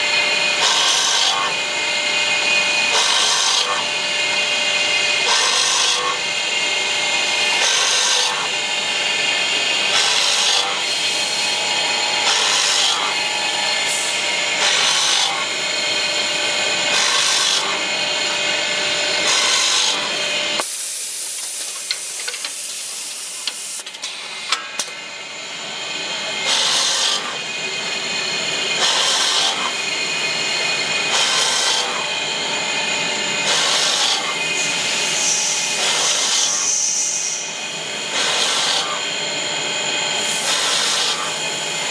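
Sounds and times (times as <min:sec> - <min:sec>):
drill bit grinding: 0:00.0 - 0:20.7, 0:24.2 - 0:41.9
drilling machine motor whine: 0:00.0 - 0:41.9.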